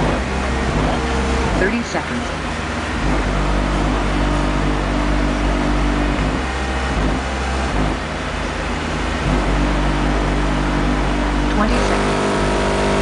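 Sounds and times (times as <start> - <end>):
distorted buzzing bass tone: 0.0 - 13.0.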